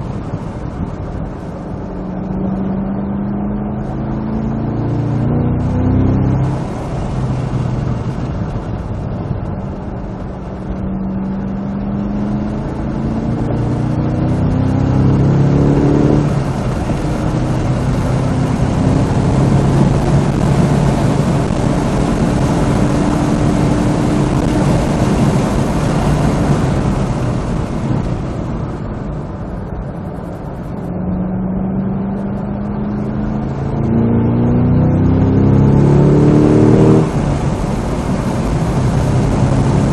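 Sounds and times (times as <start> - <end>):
car engine revving: 0.0 - 39.9
heavy wind noise: 0.0 - 39.9.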